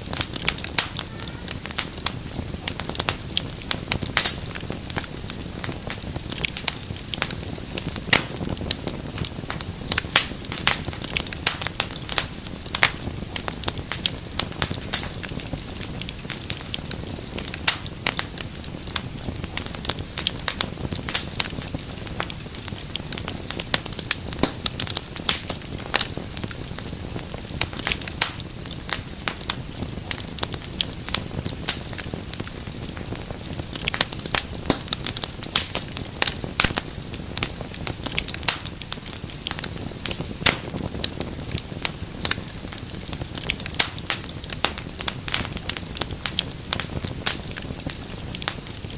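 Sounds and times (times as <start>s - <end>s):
fire crackling in a fireplace: 0.0s - 48.9s.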